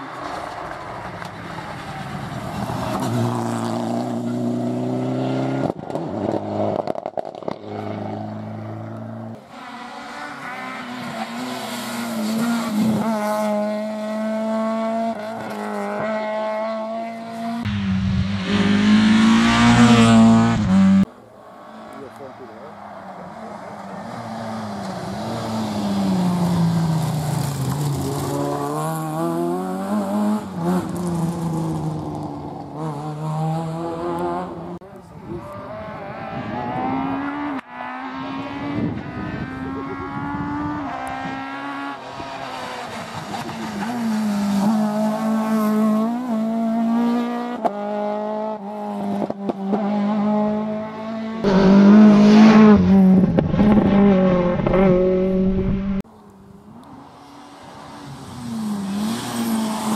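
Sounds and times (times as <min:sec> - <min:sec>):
rally car engines revving: 0:00.0 - 0:56.0, 0:56.7 - 0:59.9.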